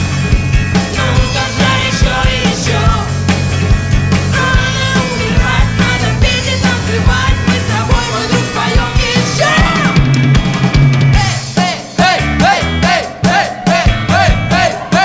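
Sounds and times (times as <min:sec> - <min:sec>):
rock song: 0:00.0 - 0:15.0.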